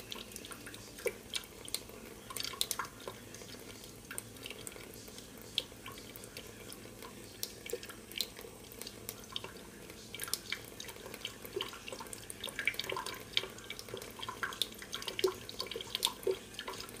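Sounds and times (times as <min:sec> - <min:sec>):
water drips and splashes: 0:00.0 - 0:17.0
water trickling into steel sink: 0:00.0 - 0:17.0.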